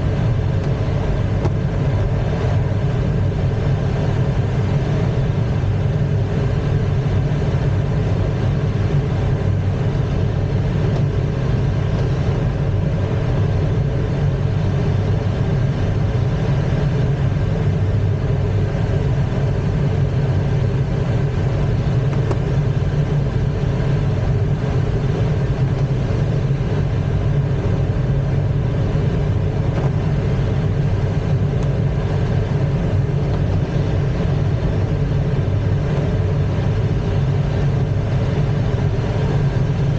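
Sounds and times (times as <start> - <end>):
airflow rushing over canopy: 0.0 - 39.9.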